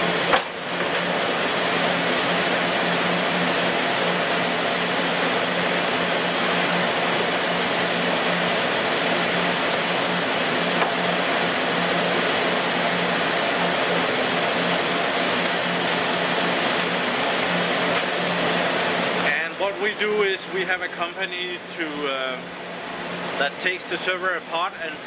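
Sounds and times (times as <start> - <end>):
server cooling fans: 0.0 - 25.0.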